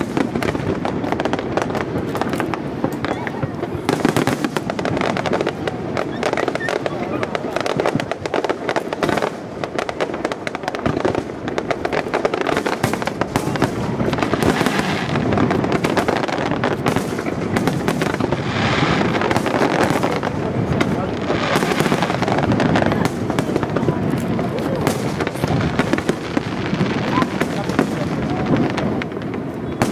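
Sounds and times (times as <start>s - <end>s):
fireworks bursting with crackling: 0.0s - 29.9s.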